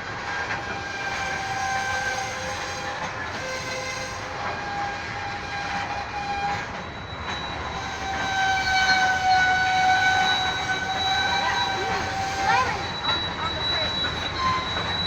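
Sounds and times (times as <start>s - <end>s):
low rumble of train: 0.0s - 15.0s.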